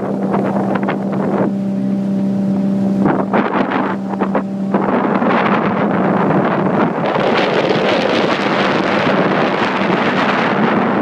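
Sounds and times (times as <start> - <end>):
motorboat engine running: 0.0 - 11.0
wind buffeting microphone: 0.0 - 11.0.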